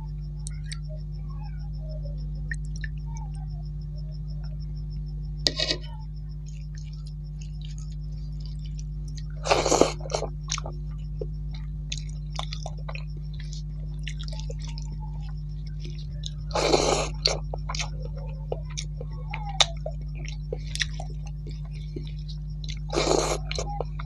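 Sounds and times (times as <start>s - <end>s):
faint high pulsing tone: 0.0s - 24.0s
steady low hum: 0.0s - 24.0s
soft chewing: 2.2s - 24.0s.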